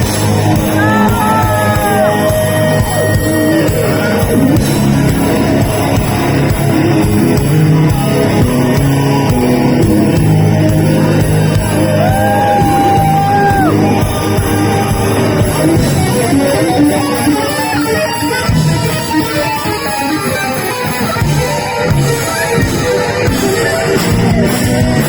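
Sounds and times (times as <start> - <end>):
heavy metal band playing live: 0.0 - 25.0.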